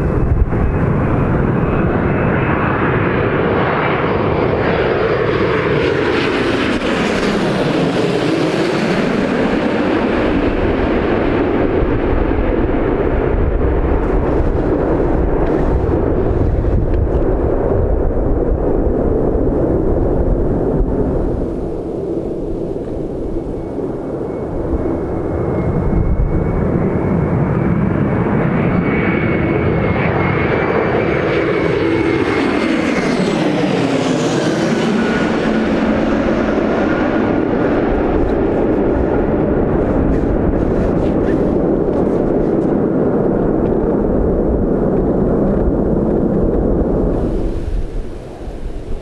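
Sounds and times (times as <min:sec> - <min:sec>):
airliner rumbling on runway: 0:00.0 - 0:49.0
jet engine roar and whine: 0:00.0 - 0:49.0.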